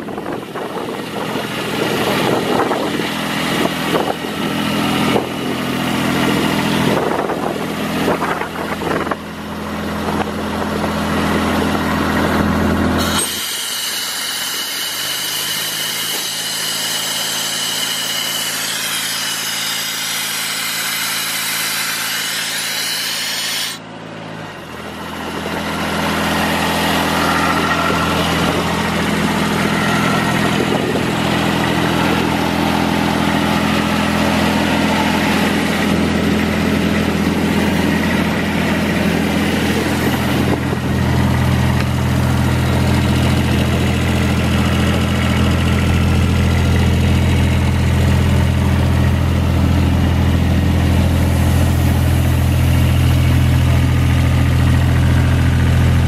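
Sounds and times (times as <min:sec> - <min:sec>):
diesel compressor engine running: 0:00.0 - 0:56.0.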